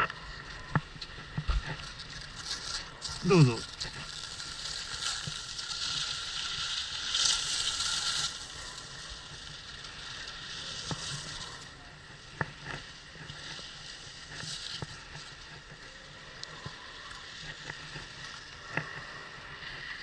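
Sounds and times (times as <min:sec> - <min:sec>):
light clicks of ski or pole: 0:00.0 - 0:20.0
skis scraping over packed snow: 0:00.0 - 0:20.0.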